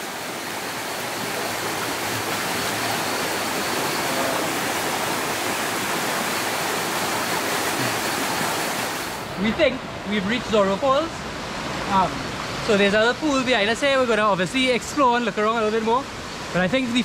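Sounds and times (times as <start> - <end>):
stream rushing over rocks: 0.0 - 17.0.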